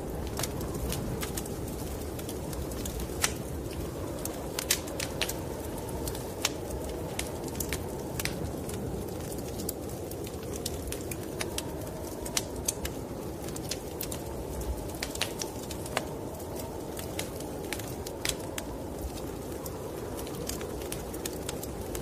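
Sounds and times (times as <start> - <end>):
snowstorm wind: 0.0 - 22.0
wood fire crackling and popping: 0.0 - 22.0.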